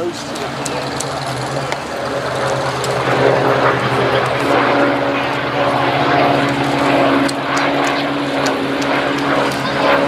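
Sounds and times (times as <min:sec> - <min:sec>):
propeller planes flying past overhead: 0:00.0 - 0:10.0.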